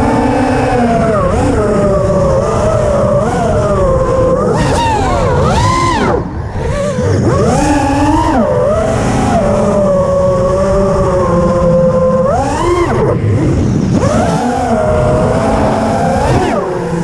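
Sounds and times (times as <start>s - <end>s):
drone motors whining: 0.0s - 17.0s
wind rush on microphone: 0.0s - 17.0s.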